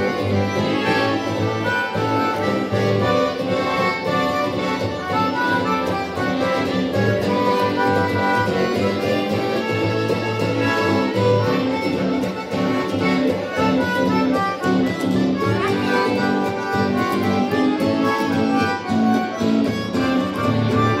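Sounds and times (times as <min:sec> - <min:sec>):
accordion bass notes and chords: 0:00.0 - 0:21.0
piano accordion melody: 0:00.0 - 0:21.0.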